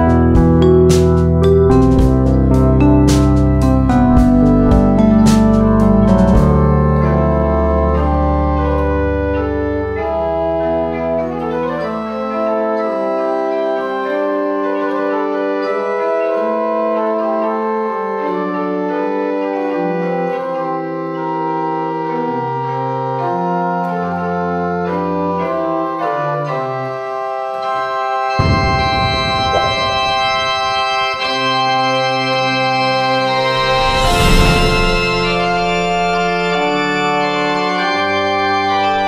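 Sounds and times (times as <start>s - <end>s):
organ music: 0.0s - 39.0s.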